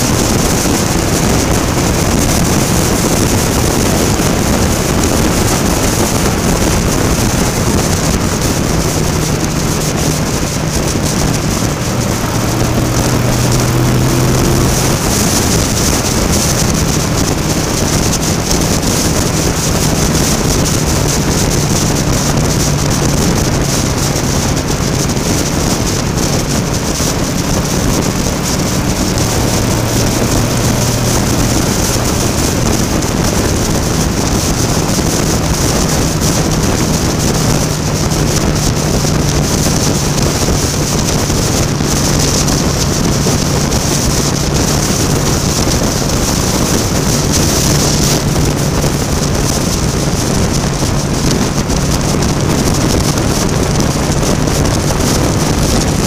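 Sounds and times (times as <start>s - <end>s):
motorcycle engine cruising: 0.0s - 56.0s
wind rush on helmet: 0.0s - 56.0s.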